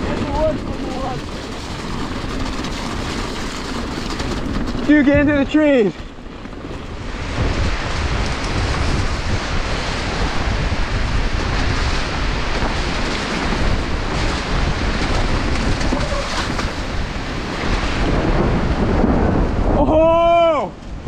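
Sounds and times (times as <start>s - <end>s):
heavy low rumble: 0.0s - 21.0s
wind buffeting microphone: 0.0s - 21.0s.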